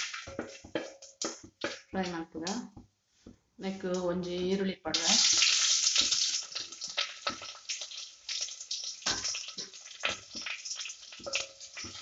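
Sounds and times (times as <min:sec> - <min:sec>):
onions sizzling in hot fat: 0:00.0 - 0:02.7, 0:03.6 - 0:12.0.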